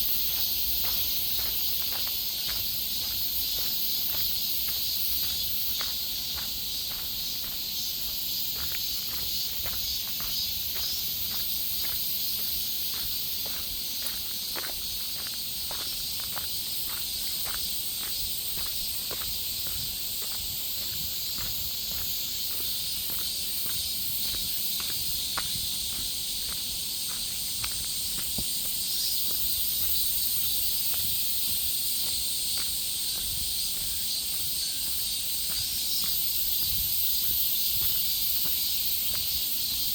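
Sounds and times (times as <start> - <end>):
footsteps walking: 0.0 - 39.8
high-pitched insect chorus: 0.0 - 39.9.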